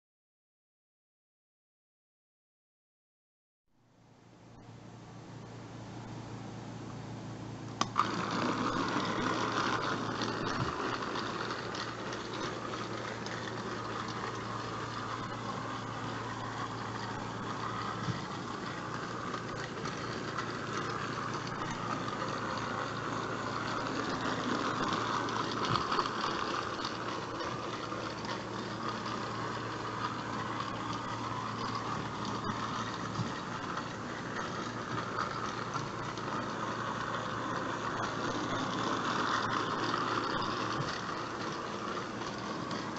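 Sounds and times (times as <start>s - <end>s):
toy electric motor whirring: 7.8s - 42.9s.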